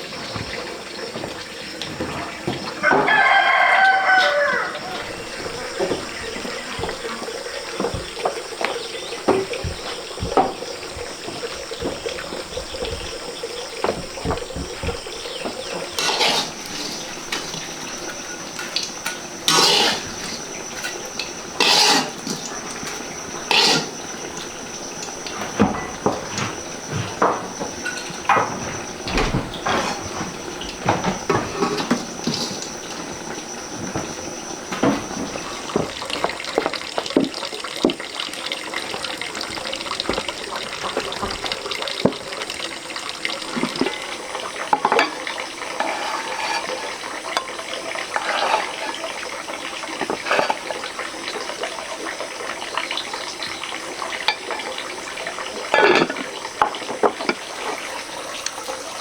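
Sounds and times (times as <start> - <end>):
pots and utensils clinking: 0.0 - 59.0
water running: 0.0 - 59.0.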